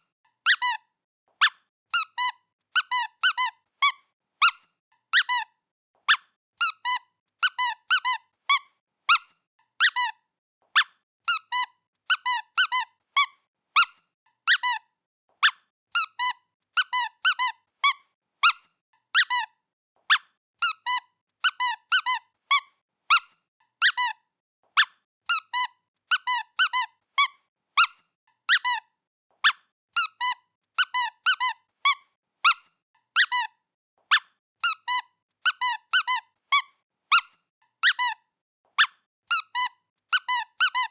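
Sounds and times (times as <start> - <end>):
squeaky pet toy squeaks: 0.4 - 40.9.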